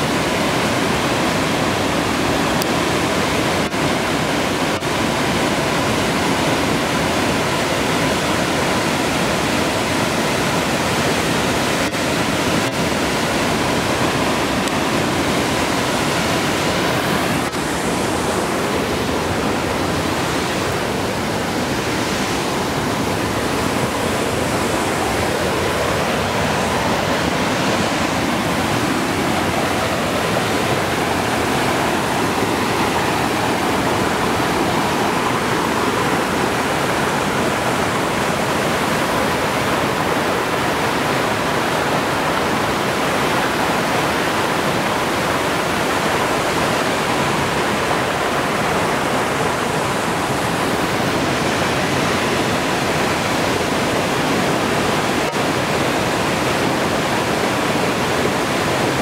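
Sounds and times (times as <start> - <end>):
creek cascading over boulders: 0.0 - 59.0.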